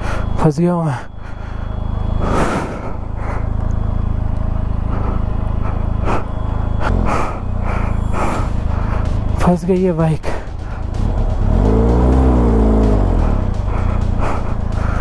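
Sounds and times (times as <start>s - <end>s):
engine blip: 0.0s - 15.0s
motorcycle engine idling: 0.0s - 15.0s.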